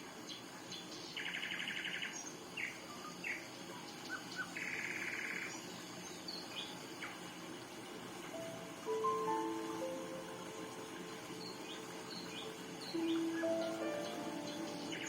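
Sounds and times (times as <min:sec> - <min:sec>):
songbird trills: 0:00.2 - 0:07.2, 0:08.4 - 0:15.0.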